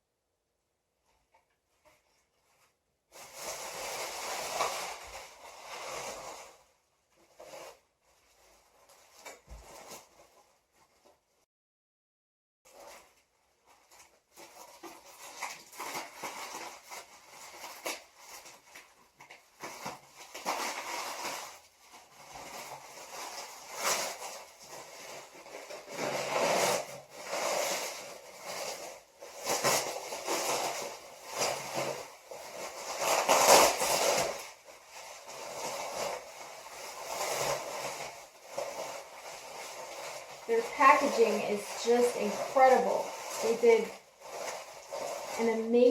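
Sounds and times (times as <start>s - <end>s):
packing material crinkling: 1.8s - 11.4s, 12.7s - 45.9s.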